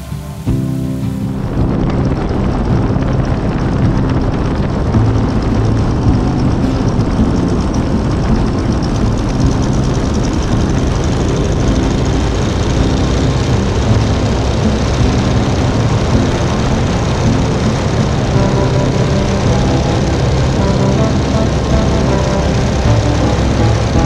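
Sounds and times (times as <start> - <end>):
radial engine and propeller running: 0.0 - 24.0
wind on microphone: 0.0 - 24.0.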